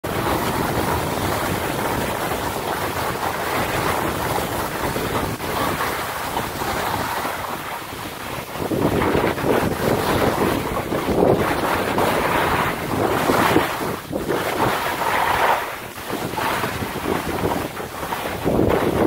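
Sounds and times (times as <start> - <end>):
wind buffeting microphone: 0.0 - 19.0
skis hissing over snow: 0.2 - 18.8.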